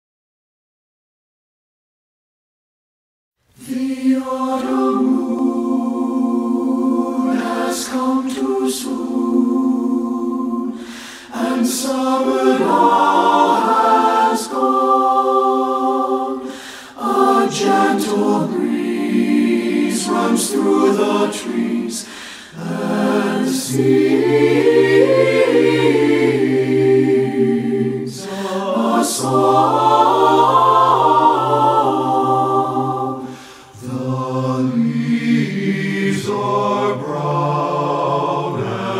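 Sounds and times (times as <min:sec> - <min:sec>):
choir singing a cappella: 0:03.5 - 0:38.9.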